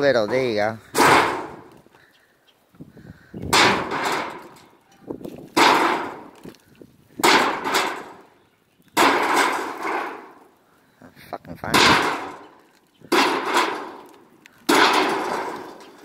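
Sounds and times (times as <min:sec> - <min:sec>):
heavy blows on tin and wood: 0:00.0 - 0:02.1, 0:02.8 - 0:10.6, 0:11.6 - 0:16.0.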